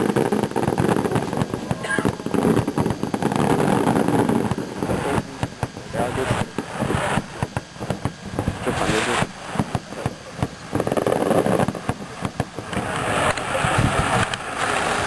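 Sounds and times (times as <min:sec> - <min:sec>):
fireworks bangs and crackles: 0:00.0 - 0:15.0
fireworks hissing rush: 0:00.0 - 0:15.0.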